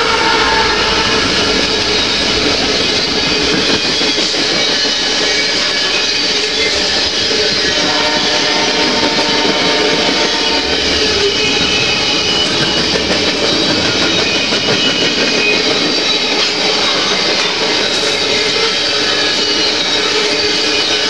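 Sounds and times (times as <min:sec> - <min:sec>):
steel wheels rumbling on rails: 0:00.0 - 0:21.0.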